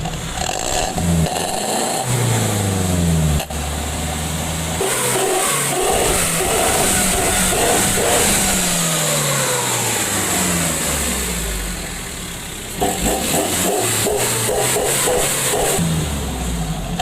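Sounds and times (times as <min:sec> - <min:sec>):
deep burbling engine exhaust: 0:00.0 - 0:17.0.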